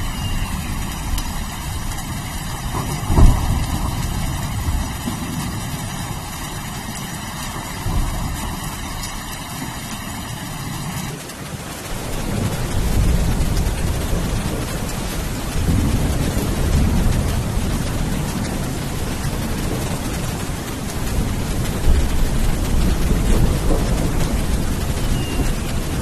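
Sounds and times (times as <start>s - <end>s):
sharp thunderclap: 0.0s - 6.9s, 7.6s - 9.8s, 11.9s - 26.0s
rain hissing: 0.0s - 26.0s
thunder rumbling: 0.0s - 26.0s.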